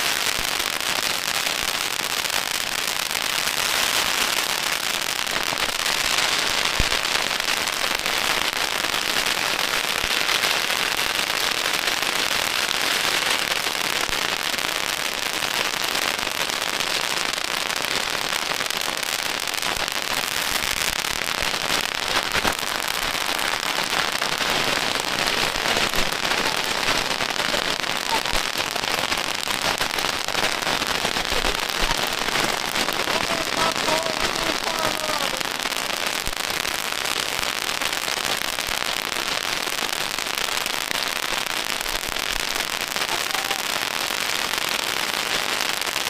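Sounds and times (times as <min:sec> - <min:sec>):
firecrackers crackling: 0:00.0 - 0:46.0
loud firecracker bangs: 0:00.0 - 0:46.0.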